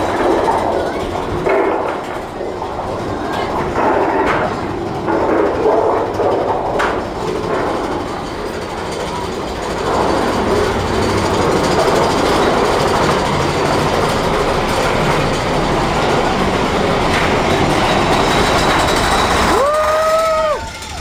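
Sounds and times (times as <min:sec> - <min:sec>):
roller coaster wheels rumbling on rails: 0:00.0 - 0:21.0.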